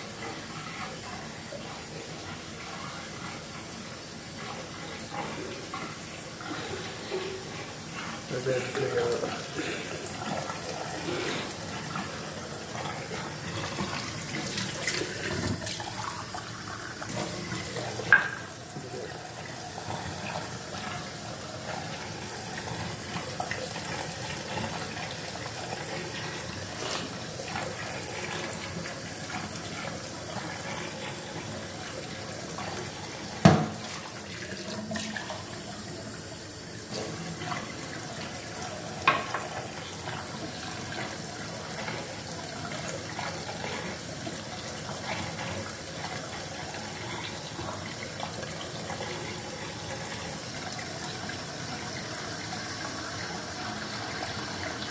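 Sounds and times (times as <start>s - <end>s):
tap water running into sink: 0.0s - 54.9s.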